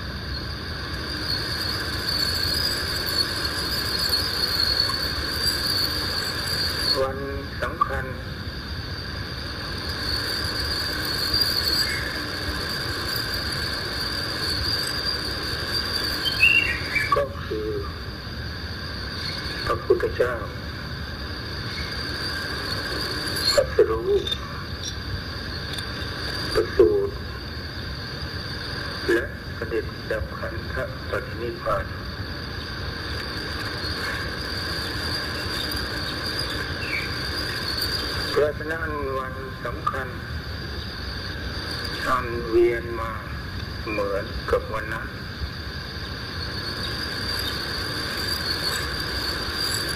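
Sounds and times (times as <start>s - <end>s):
background hiss and rumble: 0.0s - 49.9s
crickets trilling: 0.0s - 49.9s
insects chirring: 0.0s - 49.9s.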